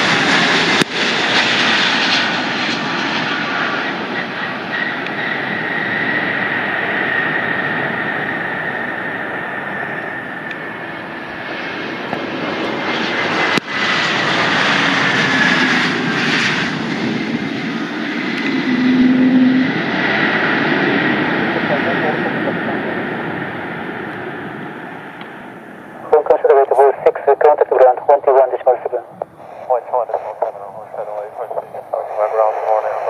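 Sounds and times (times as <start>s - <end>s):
airplane engines roaring with whine: 0.0s - 33.0s.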